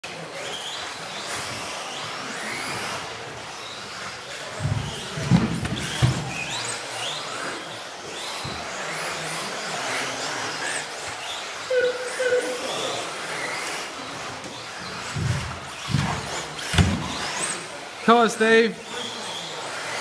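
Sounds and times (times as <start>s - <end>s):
electric motors whining: 0.4s - 18.0s.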